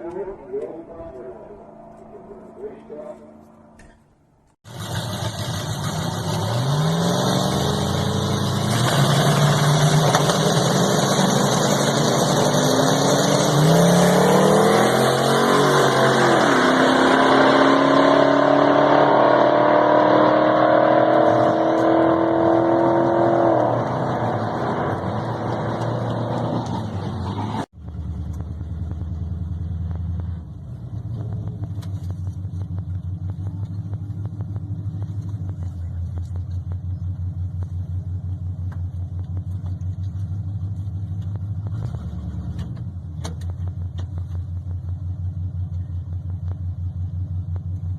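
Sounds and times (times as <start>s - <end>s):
engine running low rumble: 0.0s - 16.4s, 20.2s - 47.9s
truck engine accelerating hard: 4.6s - 47.9s.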